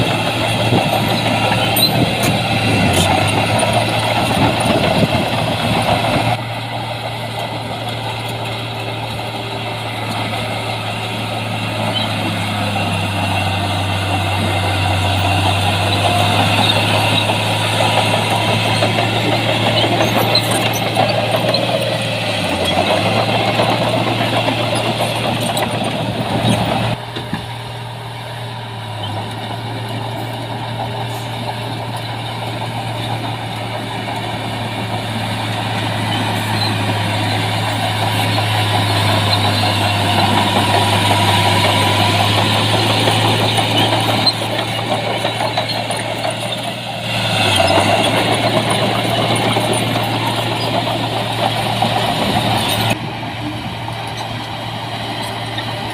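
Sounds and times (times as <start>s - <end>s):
heavy diesel machinery engine drone: 0.0s - 55.9s.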